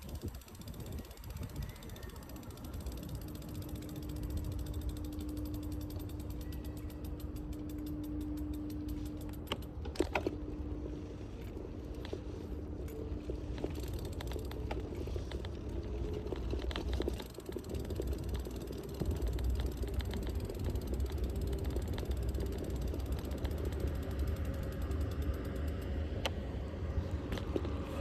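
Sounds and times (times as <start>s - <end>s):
bicycle freewheel ticking: 0.0s - 9.8s, 12.8s - 26.3s
low rumble of riding: 0.0s - 28.0s.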